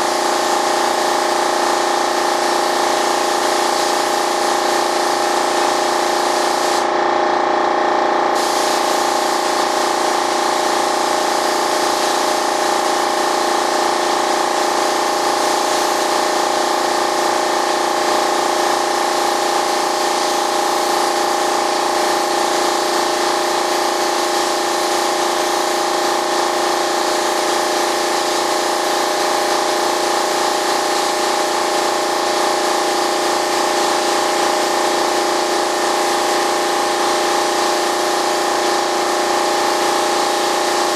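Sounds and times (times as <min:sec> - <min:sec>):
spray gun hissing: 0:00.0 - 0:07.0, 0:08.3 - 0:40.9.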